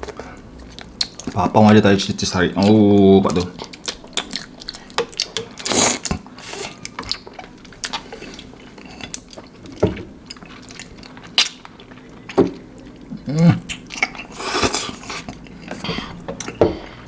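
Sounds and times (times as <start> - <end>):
noodles slurped and chewed: 2.6 - 16.6.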